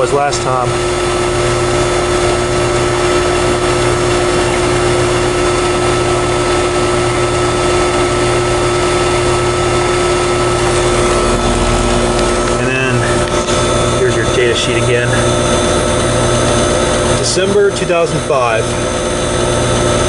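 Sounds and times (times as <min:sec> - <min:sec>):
fan rushing: 0:00.0 - 0:20.0
heat pump compressor hum: 0:00.0 - 0:20.0.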